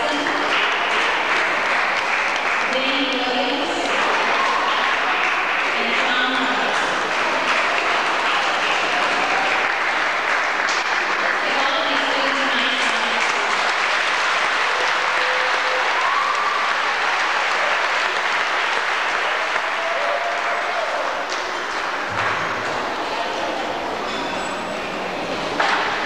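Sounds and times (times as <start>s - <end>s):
audience applauding: 0.0s - 23.6s.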